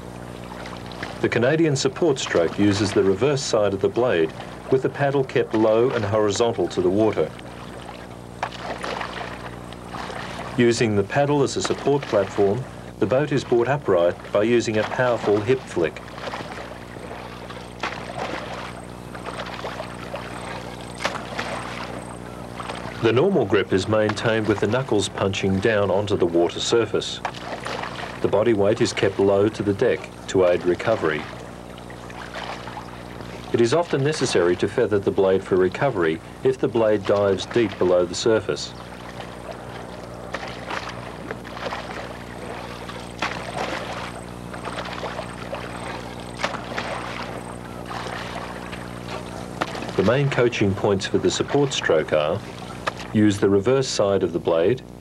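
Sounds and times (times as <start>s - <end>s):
canoe paddle splashing water: 0.0s - 54.7s
steady low hum: 0.0s - 55.0s.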